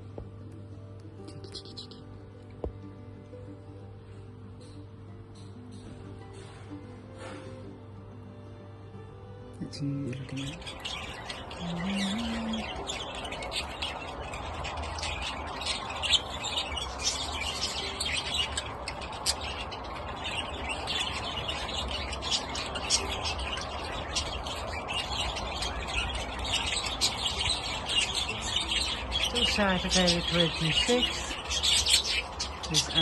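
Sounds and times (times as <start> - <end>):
birds chirping: 0.0 - 7.6, 9.6 - 33.0.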